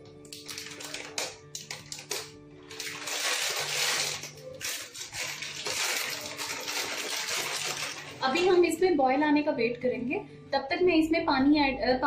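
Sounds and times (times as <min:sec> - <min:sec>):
music with held tones: 0:00.0 - 0:12.0.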